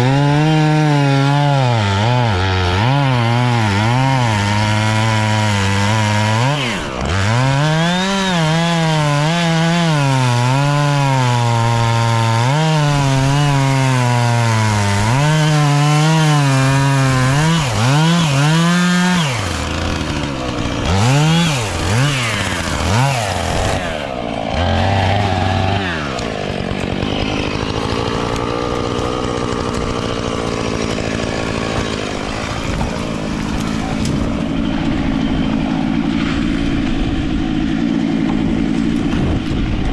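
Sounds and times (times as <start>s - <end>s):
chainsaw revving while cutting wood: 0.0s - 39.9s.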